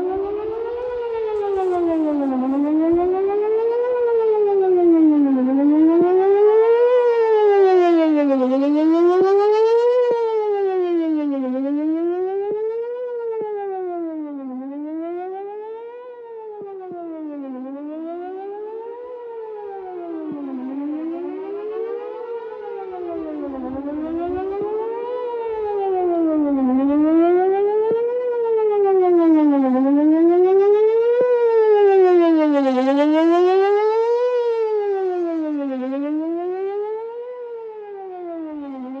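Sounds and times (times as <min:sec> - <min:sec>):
warning siren sweeping up and down: 0:00.0 - 0:10.0, 0:10.6 - 0:39.0.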